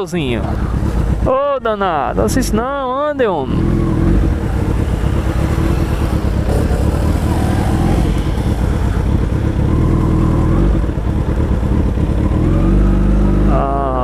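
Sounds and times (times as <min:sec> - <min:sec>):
motorcycle engine running loud: 0:00.0 - 0:14.0.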